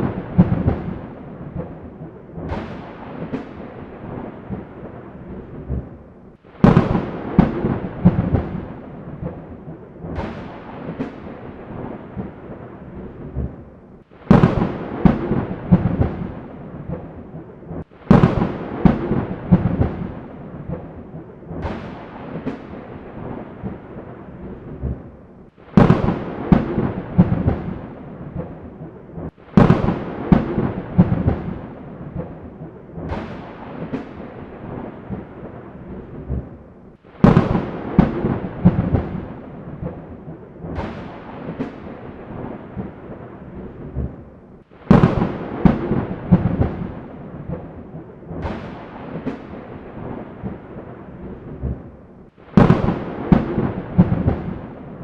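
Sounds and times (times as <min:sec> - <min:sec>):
thunder cracking and rumbling: 0:00.0 - 0:55.0.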